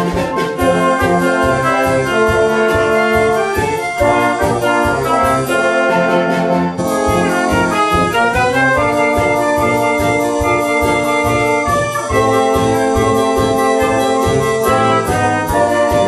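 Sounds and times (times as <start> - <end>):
steady drum beat: 0.0 - 16.0
wind band playing: 0.0 - 16.0.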